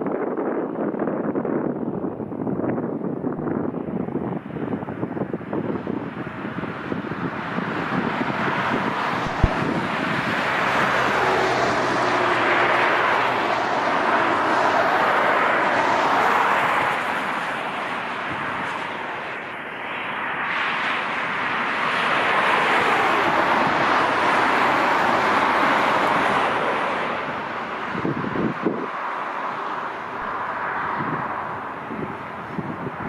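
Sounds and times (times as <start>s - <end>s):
jet engine roar: 4.4s - 33.0s.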